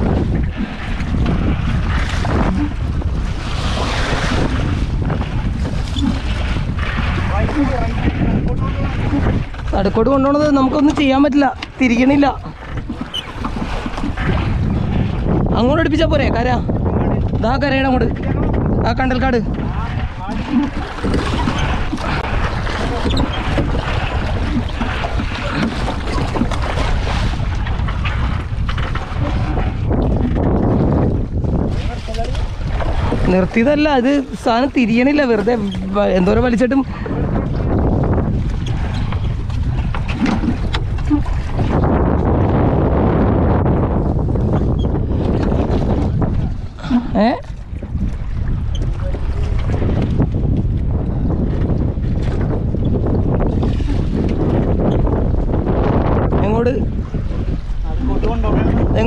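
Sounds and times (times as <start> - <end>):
waves slapping against boat: 0.0 - 59.0
wind rumbling on microphone: 0.0 - 59.0.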